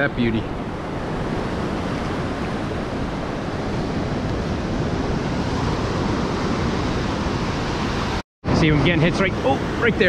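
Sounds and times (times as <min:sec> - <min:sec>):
ocean surf breaking: 0:00.0 - 0:10.0
wind noise on microphone: 0:00.0 - 0:10.0.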